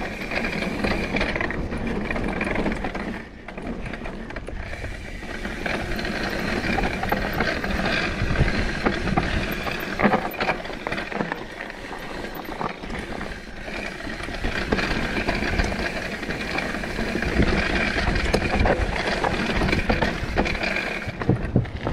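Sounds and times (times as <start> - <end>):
bike rattling and knocking: 0.0 - 21.9
tyres on dirt and rock: 0.0 - 21.9.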